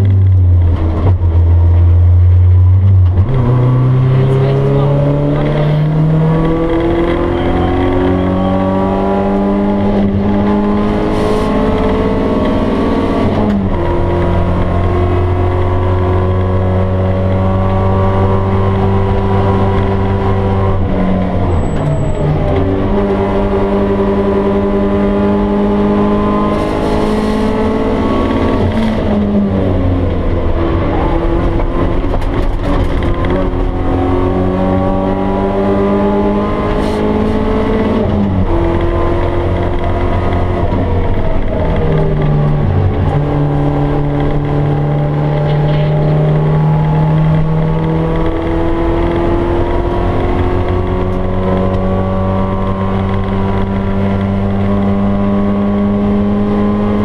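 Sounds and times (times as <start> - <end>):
car engine revving in cabin: 0.0 - 57.0.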